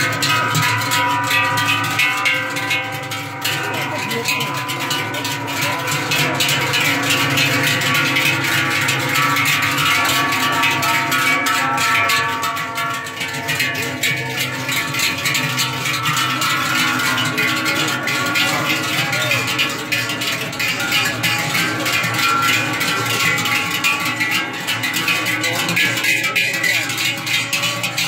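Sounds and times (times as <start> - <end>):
cowbells clanging: 0.0 - 28.0.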